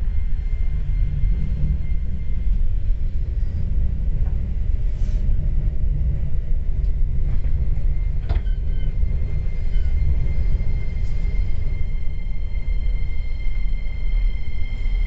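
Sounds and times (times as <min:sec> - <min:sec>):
commuter train low rumble: 0:00.0 - 0:15.0.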